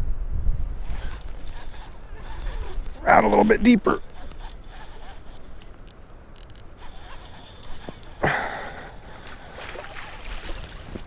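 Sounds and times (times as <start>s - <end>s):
wind rumbling on microphone: 0.0s - 11.0s
fishing reel cranking: 0.7s - 10.6s.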